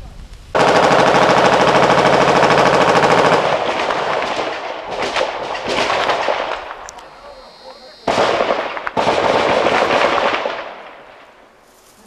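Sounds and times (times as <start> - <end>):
machine-gun fire: 0.5 - 6.9, 8.0 - 11.4
gunshots: 0.6 - 11.4.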